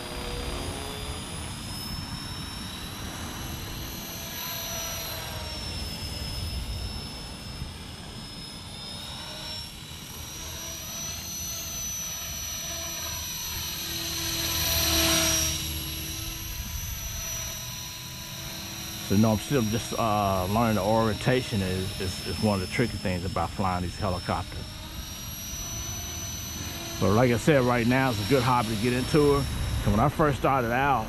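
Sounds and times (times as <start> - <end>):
rc helicopter motor whine: 0.0 - 31.0.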